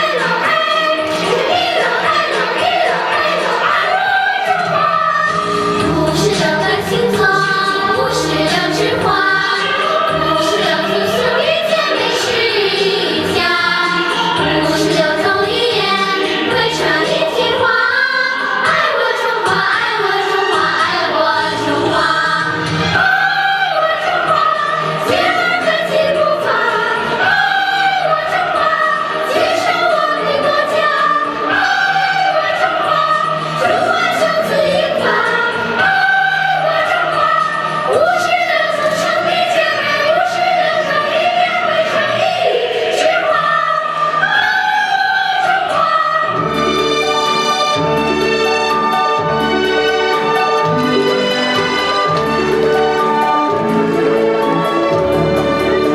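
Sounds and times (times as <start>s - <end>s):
children's choir singing: 0.0s - 55.9s.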